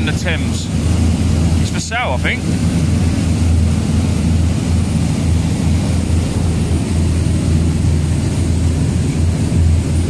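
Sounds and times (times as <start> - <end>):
boat engine drone: 0.0 - 10.0
water rushing: 0.0 - 10.0
wind: 0.0 - 10.0.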